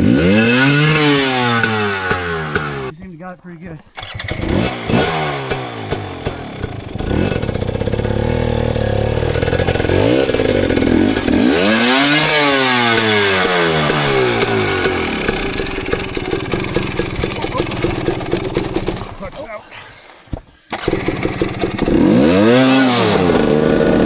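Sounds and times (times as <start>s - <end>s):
dirt bike engine revving: 0.0s - 3.1s, 3.9s - 19.5s, 20.7s - 24.0s.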